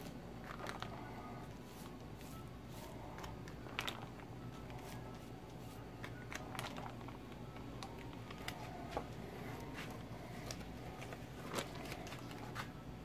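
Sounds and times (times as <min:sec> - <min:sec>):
paper crinkling and rustling: 0:00.0 - 0:12.8
low steady hum: 0:00.0 - 0:13.0.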